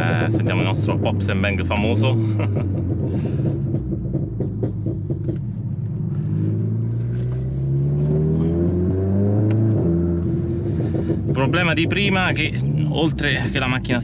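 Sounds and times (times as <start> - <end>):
car engine accelerating: 0.0 - 14.0
exhaust popping and crackling: 0.0 - 14.0.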